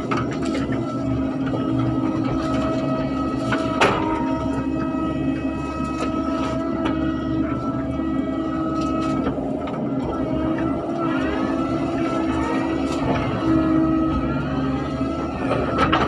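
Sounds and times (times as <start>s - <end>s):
excavator engine whining: 0.0s - 16.0s.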